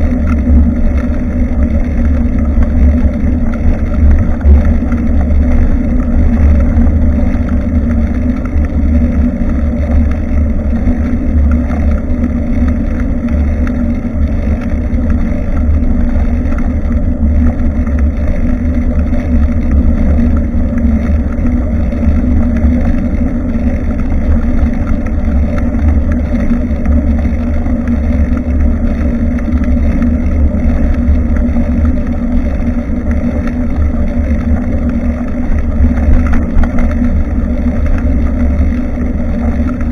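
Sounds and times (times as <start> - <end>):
road vibration rumble: 0.0 - 39.9
wind buffeting microphone: 0.0 - 39.9.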